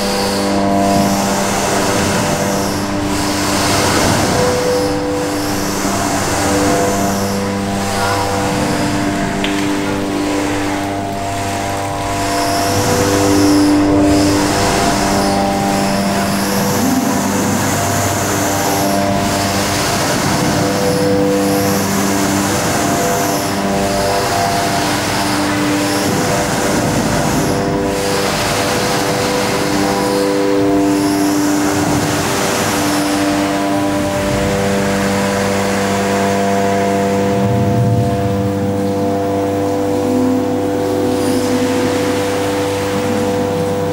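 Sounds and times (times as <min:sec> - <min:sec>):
machine whine: 0:00.0 - 0:43.9
water splashing: 0:00.0 - 0:43.9.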